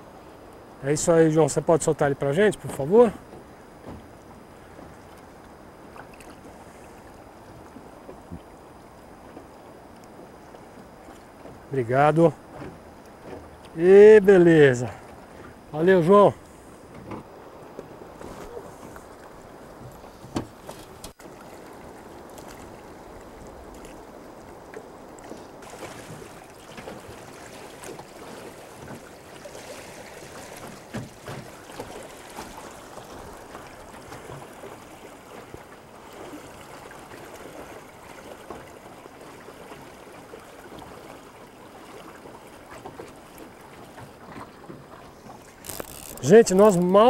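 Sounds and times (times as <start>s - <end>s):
river water flowing: 0.0s - 47.0s.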